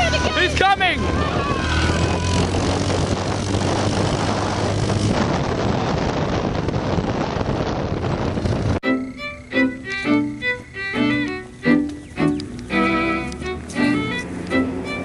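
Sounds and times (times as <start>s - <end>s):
car driving off on dirt: 0.0s - 10.6s, 12.1s - 15.0s
wind buffeting microphone: 0.0s - 15.0s.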